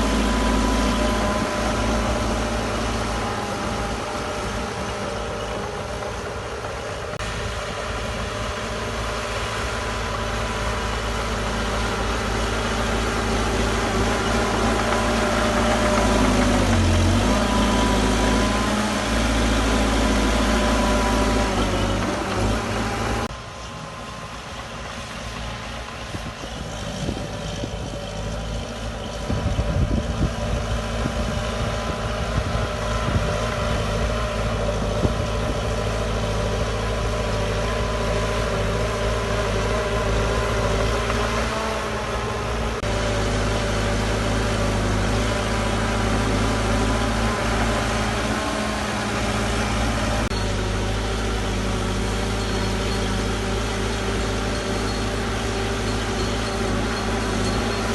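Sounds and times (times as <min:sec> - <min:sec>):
heavy diesel machinery running: 0:00.0 - 0:57.9.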